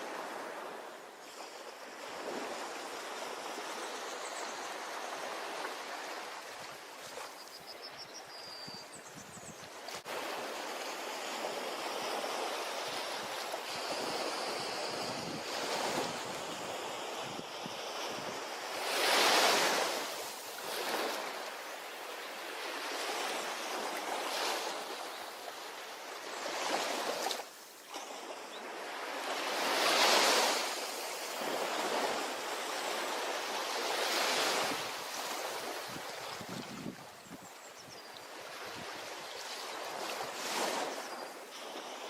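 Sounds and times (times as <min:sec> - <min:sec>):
ocean waves on beach: 0:00.0 - 0:08.0, 0:09.7 - 0:42.0.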